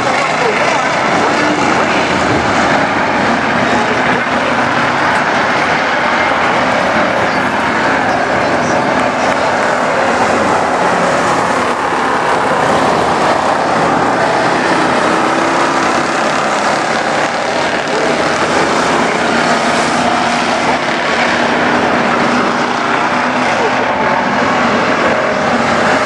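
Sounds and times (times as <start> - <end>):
race car engines drone: 0.0 - 26.0.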